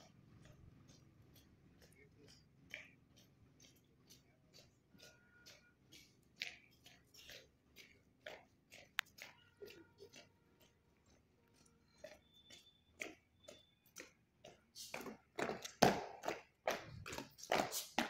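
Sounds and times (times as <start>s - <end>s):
boots marching on wet paving: 0.0s - 18.0s.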